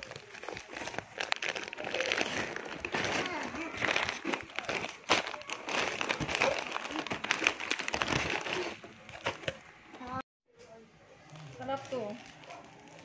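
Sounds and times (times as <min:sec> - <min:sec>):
plastic packets crinkling: 0:00.0 - 0:09.7, 0:11.2 - 0:13.0.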